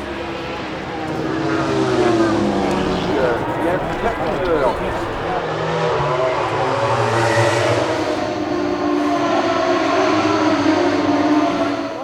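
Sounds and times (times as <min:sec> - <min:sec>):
racing motorcycle engines: 0:00.0 - 0:12.0.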